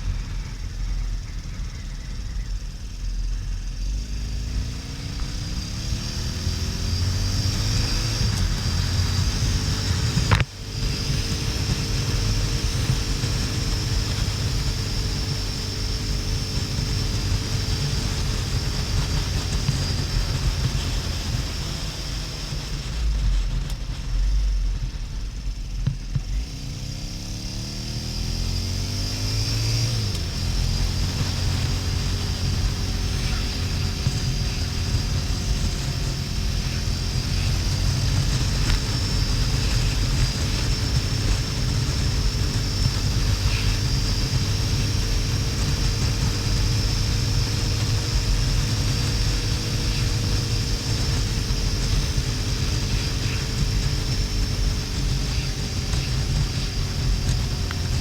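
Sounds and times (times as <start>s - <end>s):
motorcycle engine accelerating: 0.0s - 58.0s
wind rumble on microphone: 0.0s - 58.0s.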